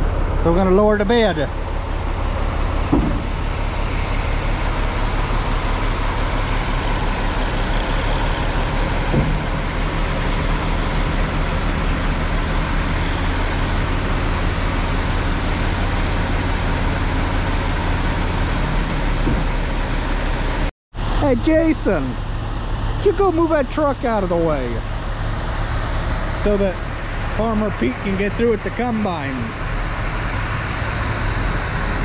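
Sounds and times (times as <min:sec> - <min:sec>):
truck diesel engine running: 0:00.0 - 0:32.0.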